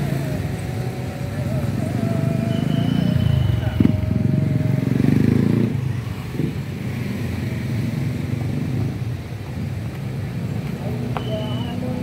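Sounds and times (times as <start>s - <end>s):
motor scooters passing close: 0.0s - 12.0s
motorcycle traffic drone: 0.0s - 12.0s.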